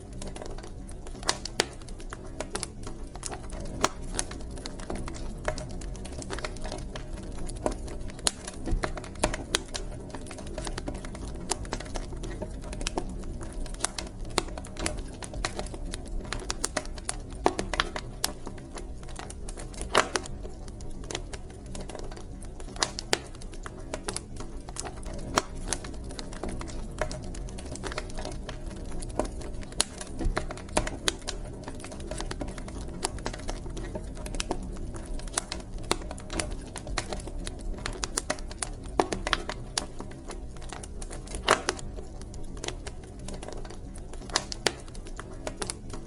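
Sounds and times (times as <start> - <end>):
low rumble of flames: 0.0 - 46.0
wood fire crackling and popping: 0.0 - 46.0.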